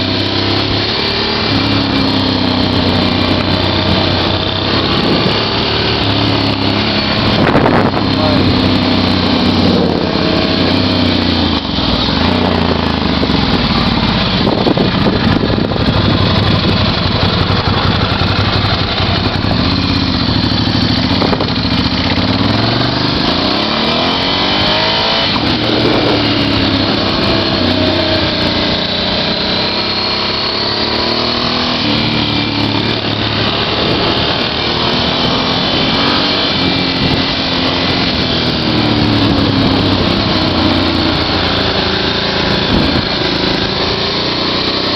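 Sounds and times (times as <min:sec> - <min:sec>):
motorcycle engine revving: 0:00.0 - 0:44.9
road and wind noise: 0:00.0 - 0:44.9.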